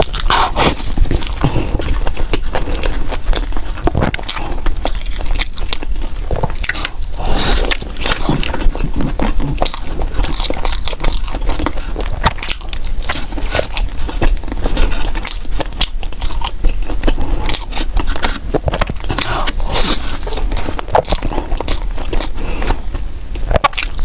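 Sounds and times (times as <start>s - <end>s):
chewing and biting food: 0.0s - 24.0s.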